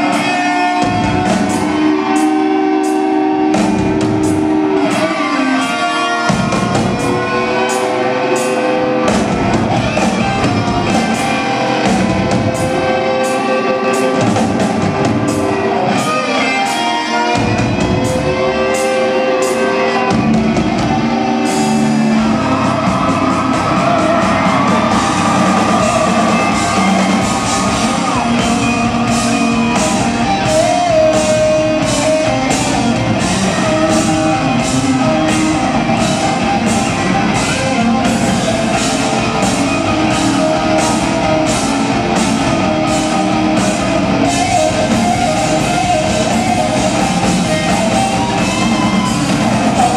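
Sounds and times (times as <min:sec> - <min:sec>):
drum kit and cymbal hits: 0:00.0 - 0:16.8, 0:17.4 - 0:49.9
distorted electric guitars: 0:00.0 - 0:49.9.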